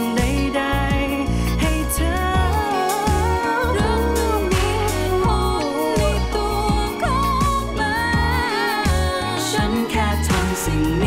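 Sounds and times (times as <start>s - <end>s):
bass and drum accompaniment: 0.0s - 11.0s
person singing long wavering notes: 0.0s - 11.0s.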